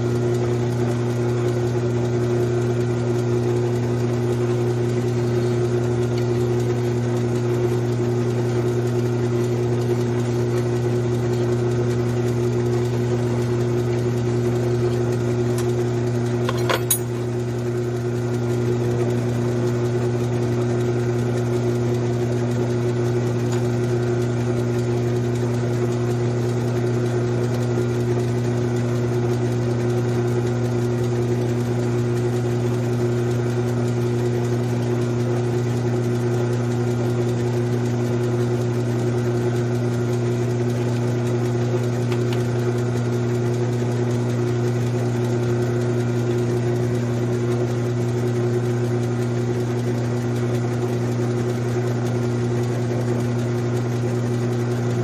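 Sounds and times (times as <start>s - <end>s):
lathe motor hum: 0.0s - 55.0s.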